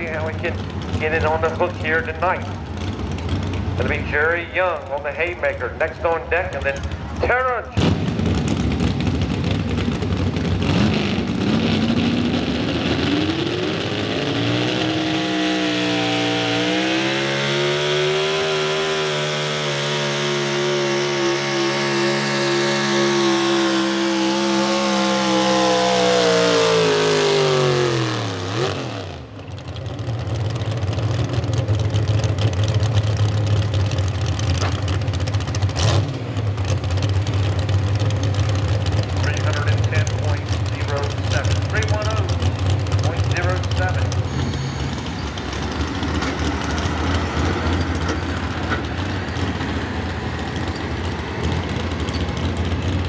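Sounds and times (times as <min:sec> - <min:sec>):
engine idling: 0:00.0 - 0:11.9, 0:19.6 - 0:53.0
truck engine revving at full throttle: 0:00.0 - 0:53.0.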